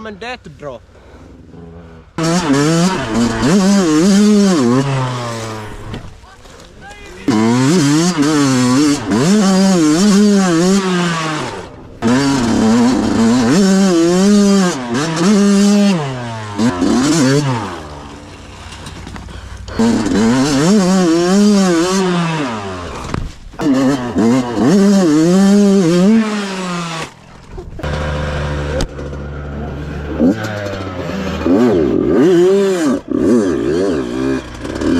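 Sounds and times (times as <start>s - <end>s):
small engine revving: 1.3s - 6.2s, 7.2s - 34.9s.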